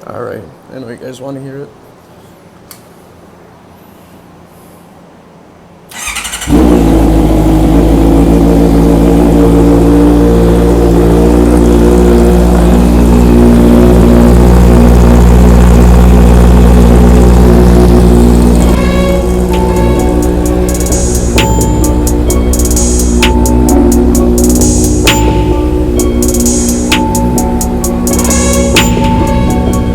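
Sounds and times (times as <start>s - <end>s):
motorcycle engine starting and idling: 5.9s - 29.9s.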